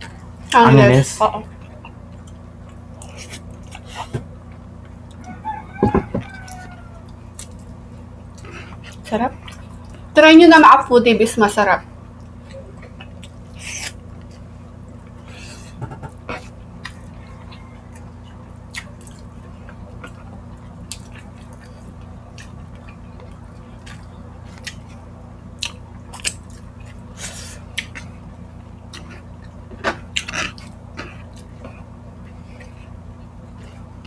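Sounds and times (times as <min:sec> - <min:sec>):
steady low hum: 0:00.0 - 0:34.0
chewing and mouth smacks: 0:01.6 - 0:05.4, 0:06.2 - 0:10.1, 0:12.2 - 0:34.0.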